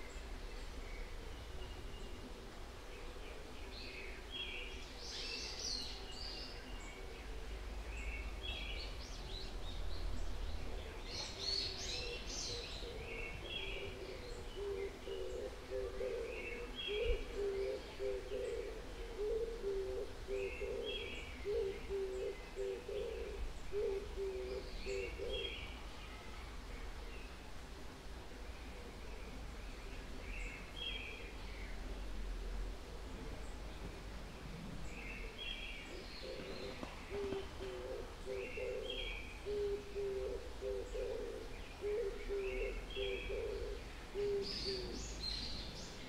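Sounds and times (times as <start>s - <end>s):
small songbirds chirping: 0.0s - 46.0s.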